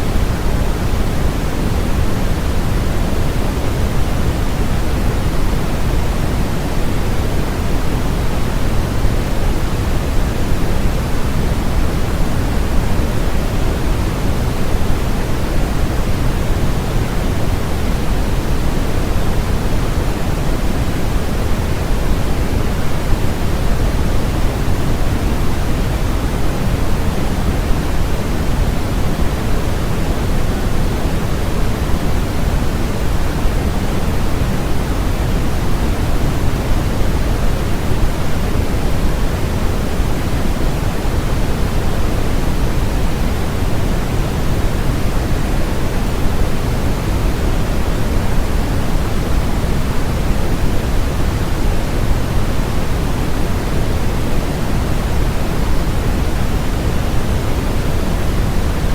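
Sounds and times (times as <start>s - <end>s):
steady pink noise: 0.0s - 58.9s.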